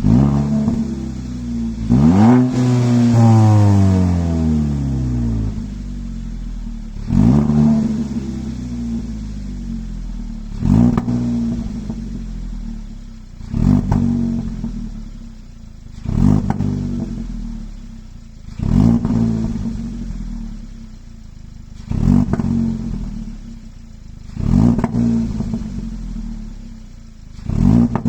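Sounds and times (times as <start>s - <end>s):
car engine revving: 0.0s - 21.0s, 21.6s - 28.0s.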